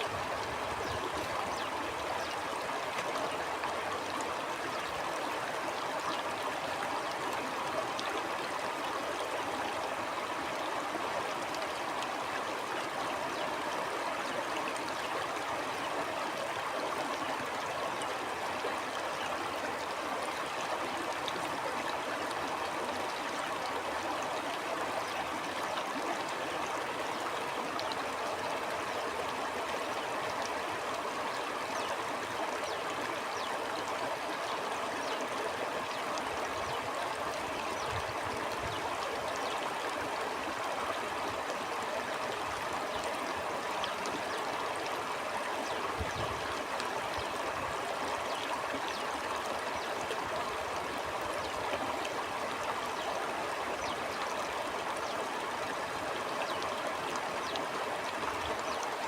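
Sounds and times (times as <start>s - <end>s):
stream flowing: 0.0s - 59.0s
water trickling and splashing: 0.0s - 59.0s.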